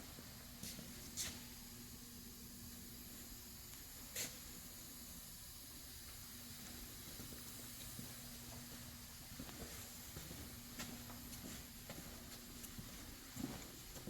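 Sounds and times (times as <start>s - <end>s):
background hiss: 0.0s - 14.0s
faint steady hum: 0.0s - 14.0s.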